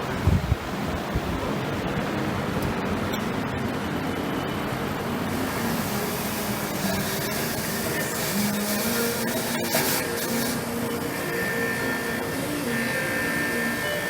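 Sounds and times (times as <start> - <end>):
mechanical background noise: 0.0 - 14.0.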